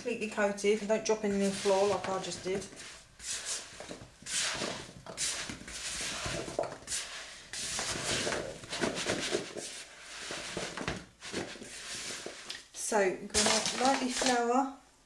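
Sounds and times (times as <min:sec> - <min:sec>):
apple pieces stirred in plastic bowl: 0:00.7 - 0:12.6, 0:13.3 - 0:14.6.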